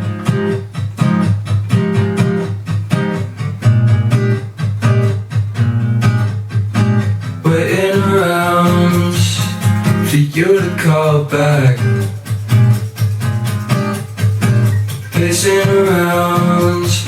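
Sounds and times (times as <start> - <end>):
strummed guitar: 0.0 - 17.0.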